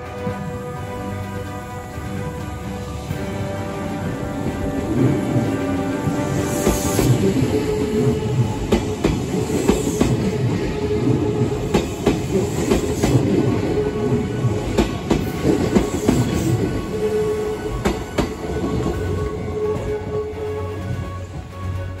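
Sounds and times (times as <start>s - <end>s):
electric train wheels clacking: 1.9s - 21.5s.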